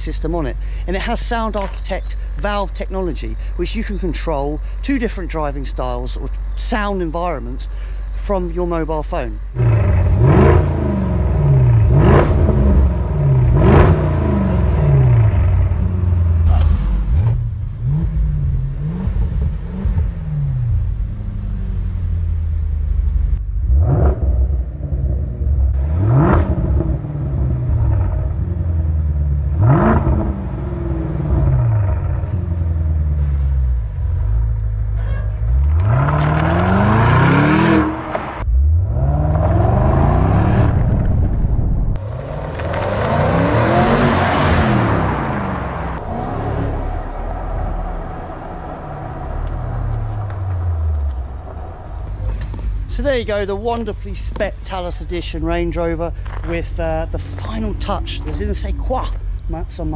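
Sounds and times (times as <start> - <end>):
car engine revving: 9.4 - 59.9.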